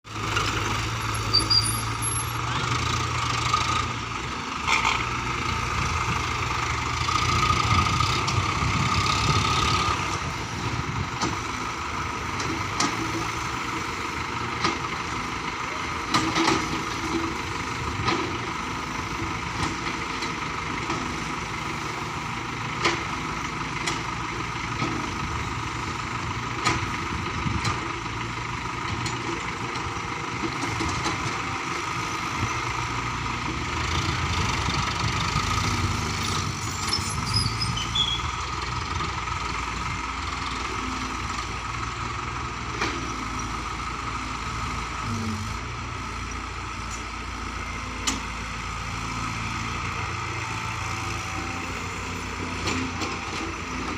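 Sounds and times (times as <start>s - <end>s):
engine running at low speed: 0.1s - 53.9s.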